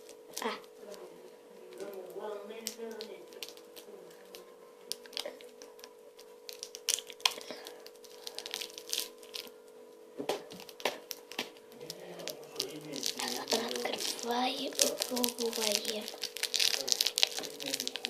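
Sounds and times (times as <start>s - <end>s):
faint steady hum: 0.0s - 18.0s
plastic wrapper crinkling: 0.0s - 18.0s.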